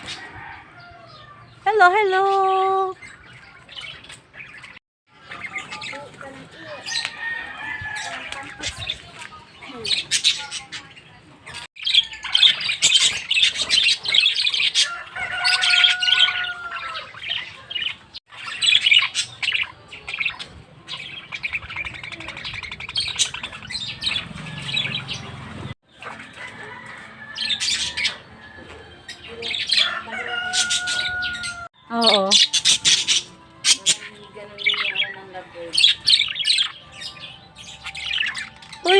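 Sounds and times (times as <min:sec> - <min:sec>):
flock of lovebirds chirping: 0:00.0 - 0:38.9.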